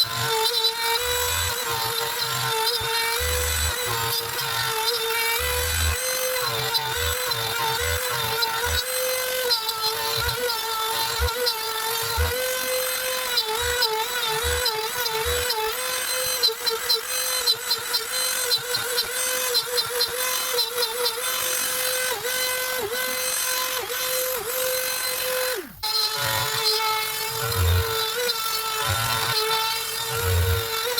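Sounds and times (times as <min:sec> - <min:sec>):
router spindle whine: 0:00.0 - 0:30.9.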